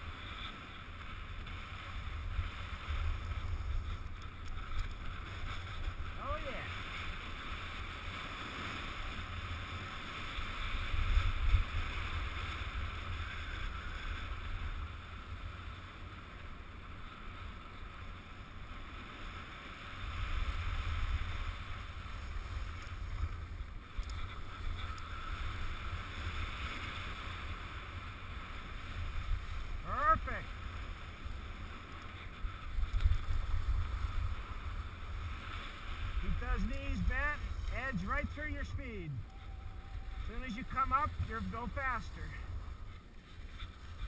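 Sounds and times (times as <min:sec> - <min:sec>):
skis sliding on snow: 0:00.0 - 0:44.0
wind rumbling on microphone: 0:00.0 - 0:44.0.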